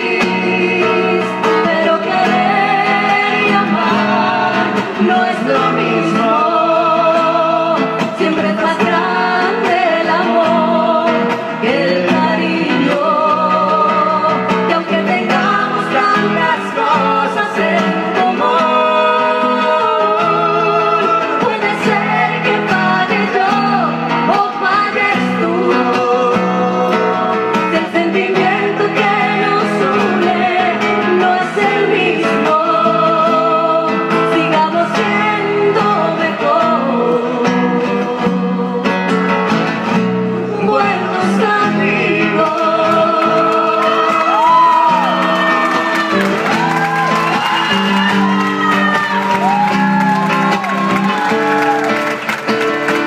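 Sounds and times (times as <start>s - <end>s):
live song with singing: 0.0s - 53.0s.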